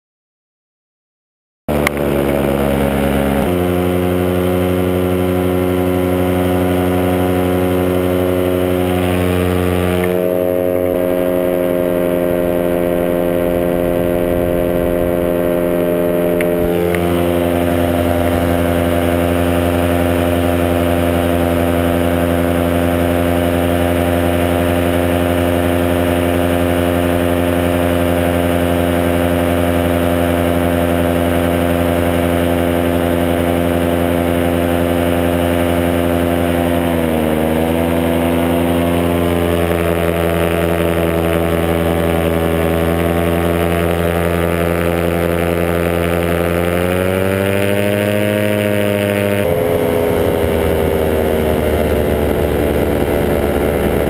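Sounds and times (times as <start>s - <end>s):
paramotor engine and propeller: 1.7s - 54.0s.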